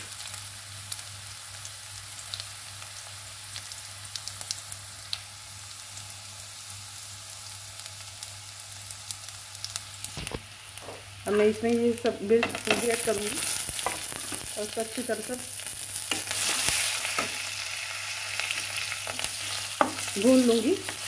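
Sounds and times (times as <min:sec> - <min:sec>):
onions frying in hot oil: 0:00.0 - 0:21.0.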